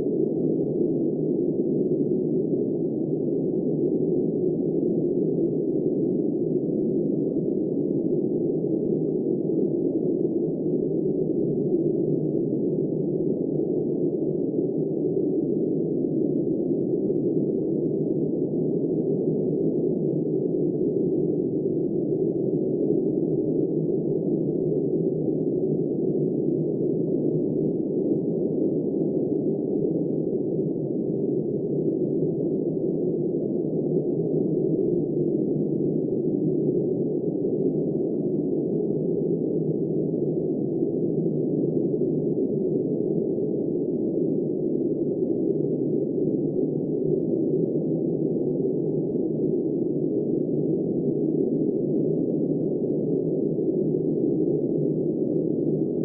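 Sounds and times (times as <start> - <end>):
muffled blizzard wind: 0.0 - 56.0.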